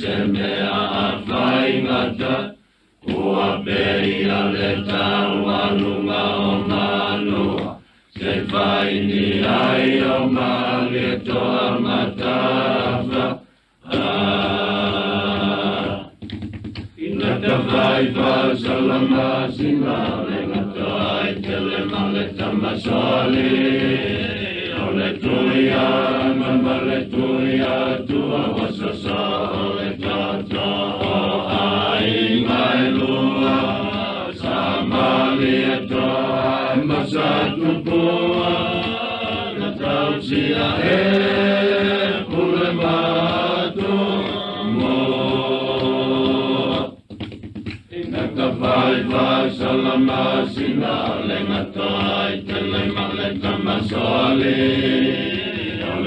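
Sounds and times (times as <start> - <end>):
group of voices singing: 0.0 - 47.1, 47.9 - 56.0.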